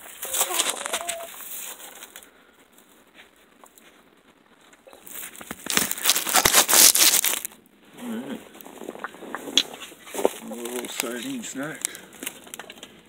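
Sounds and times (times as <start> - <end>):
straw rustling and crackling: 0.0 - 13.0.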